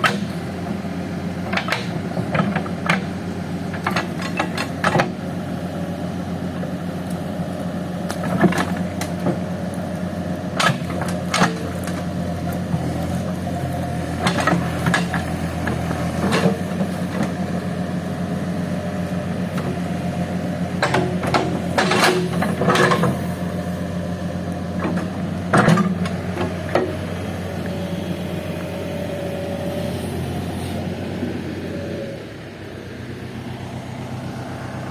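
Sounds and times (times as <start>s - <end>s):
heavy machine engine running: 0.0s - 34.9s.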